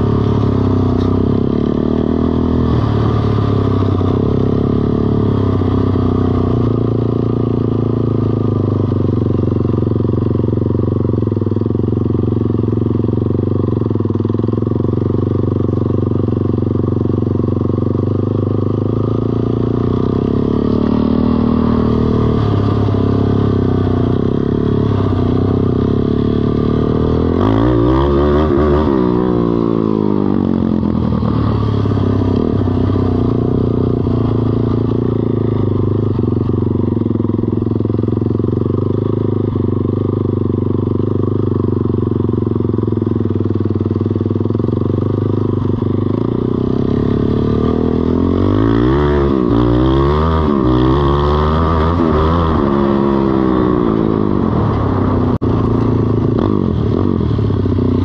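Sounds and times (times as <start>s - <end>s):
small atv engine running: 0.0s - 58.0s.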